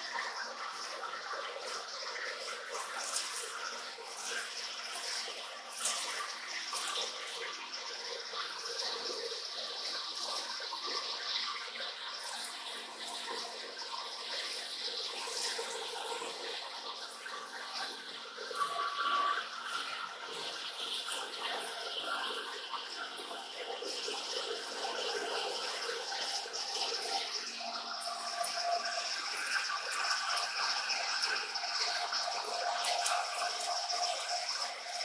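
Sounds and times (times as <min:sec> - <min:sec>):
coolant splashing: 0:00.0 - 0:35.0.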